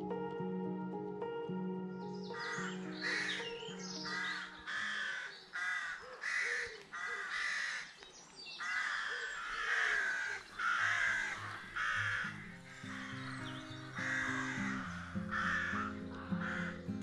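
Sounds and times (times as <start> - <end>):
crows cawing: 2.3 - 8.0, 8.6 - 17.0.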